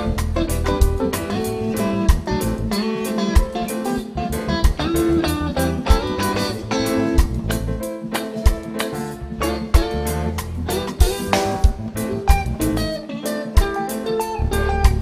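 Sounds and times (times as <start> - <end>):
electric guitar lead lines: 0.0 - 15.0
reggae band playing: 0.0 - 15.0.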